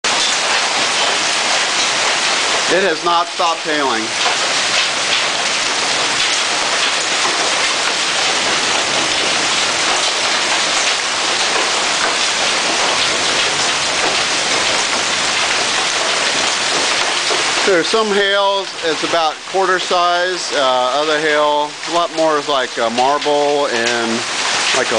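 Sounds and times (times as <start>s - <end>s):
hailstones pelting down: 0.1s - 24.9s.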